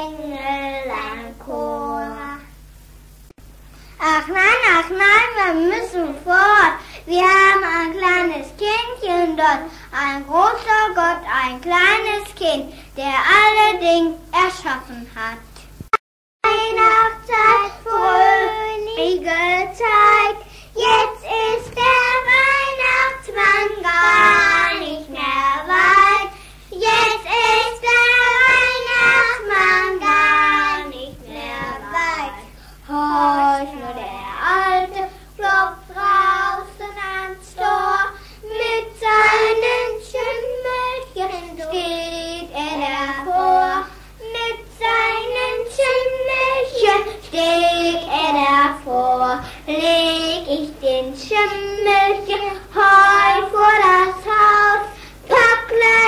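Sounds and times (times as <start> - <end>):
child singing unaccompanied: 0.0 - 2.6, 4.0 - 15.6, 16.4 - 56.0
steady low hum: 0.0 - 56.0.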